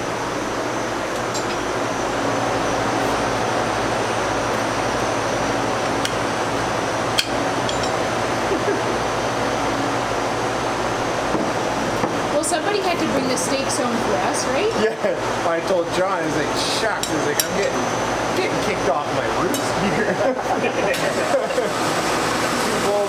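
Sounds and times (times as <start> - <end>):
machine hum and hiss: 0.0 - 23.0.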